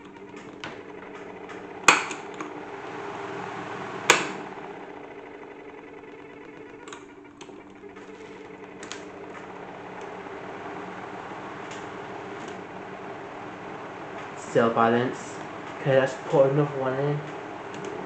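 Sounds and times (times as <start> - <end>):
toy washing machine humming: 0.0 - 18.0.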